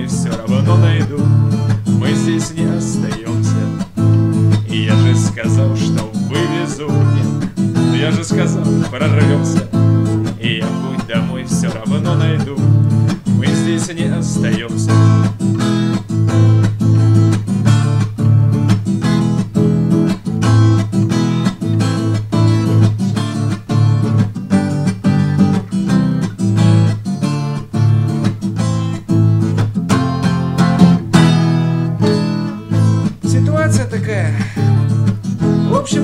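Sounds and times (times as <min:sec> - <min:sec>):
acoustic guitar strumming chords: 0:00.0 - 0:36.0.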